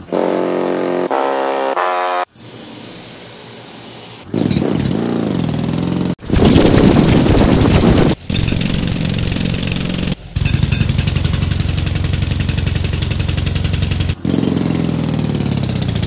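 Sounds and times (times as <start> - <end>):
processed jackhammer hammering: 0.0 - 1.4, 4.3 - 16.0.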